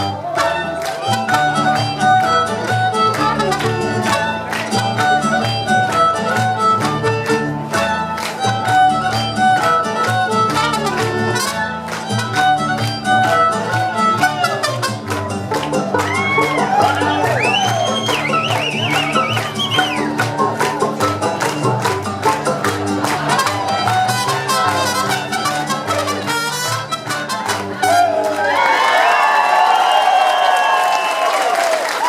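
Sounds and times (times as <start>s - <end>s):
strummed rhythm: 0.0s - 28.4s
bass line: 0.0s - 28.5s.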